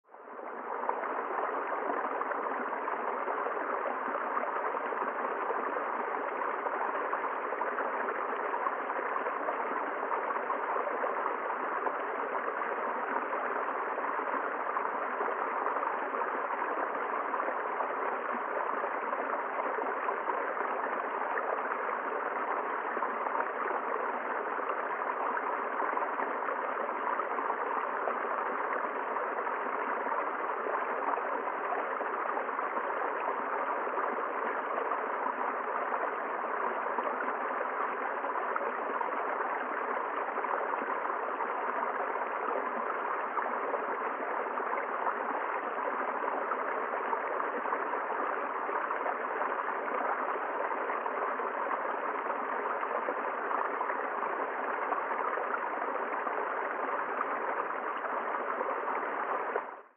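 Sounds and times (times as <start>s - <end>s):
stream running over rocks: 0.1s - 59.9s.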